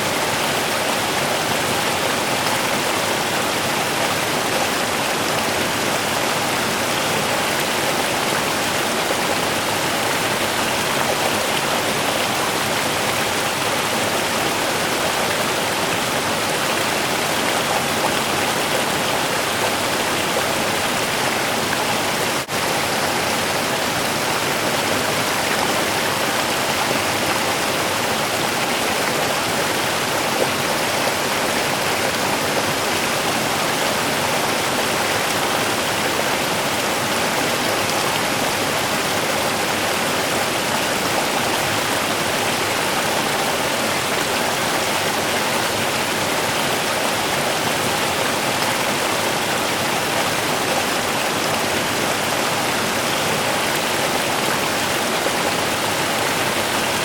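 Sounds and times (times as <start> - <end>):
water flowing over stones: 0.0 - 57.0.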